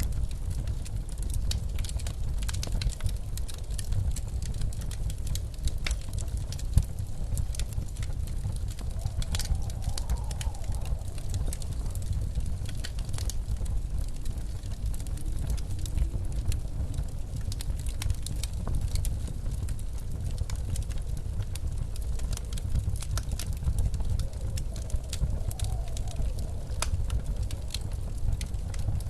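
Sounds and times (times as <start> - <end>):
blizzard wind rumbling: 0.0 - 29.0
wood fire crackling: 0.0 - 29.0
wind howling: 3.4 - 29.0.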